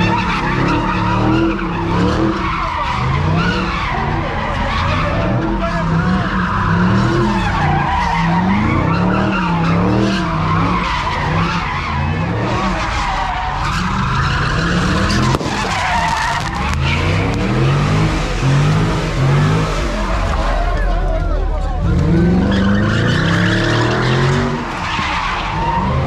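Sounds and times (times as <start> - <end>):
car engine revving: 0.0 - 26.0
tyres squealing: 0.0 - 26.0.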